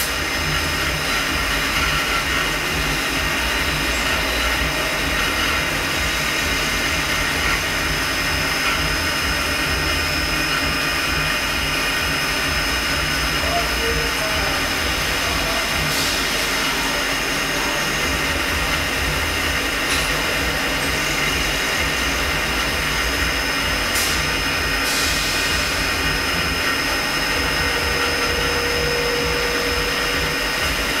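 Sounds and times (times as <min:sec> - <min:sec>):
lathe milling machine whine: 0:00.0 - 0:31.0
low machine tone: 0:00.0 - 0:31.0.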